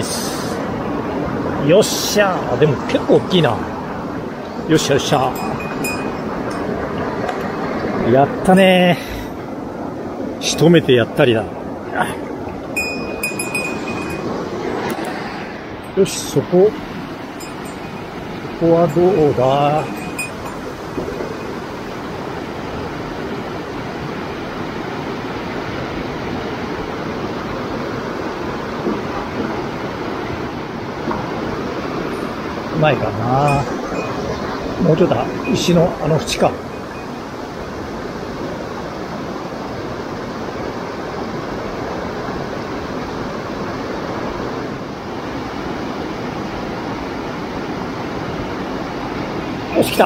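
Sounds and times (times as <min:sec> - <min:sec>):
fast-flowing stream rushing: 0:00.0 - 0:50.0.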